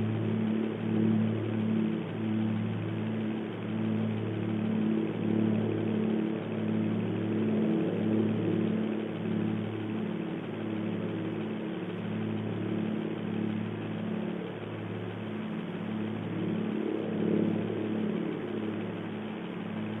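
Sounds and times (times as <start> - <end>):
airplane engine drone: 0.0 - 20.0.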